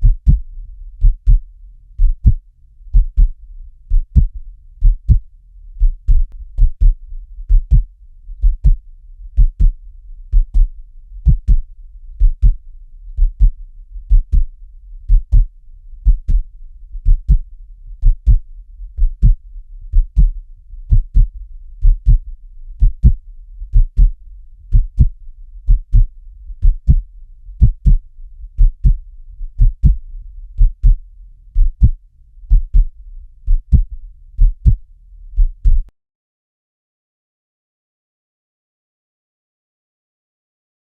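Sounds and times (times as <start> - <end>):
heartbeat thumping: 0.0 - 1.4, 2.0 - 12.6, 13.2 - 18.4, 19.0 - 30.0, 30.6 - 34.8, 35.4 - 35.9
faint low hum: 0.0 - 35.9.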